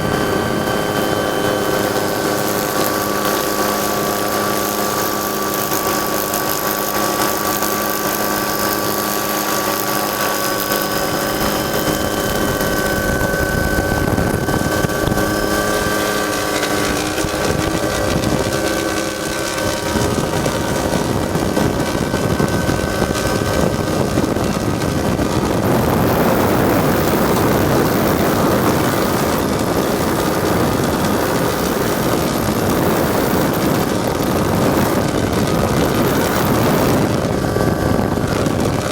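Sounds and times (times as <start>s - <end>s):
broad rushing noise: 0.0s - 38.9s
helicopter rotor noise: 0.0s - 38.9s
helicopter turbine whine: 0.0s - 38.9s.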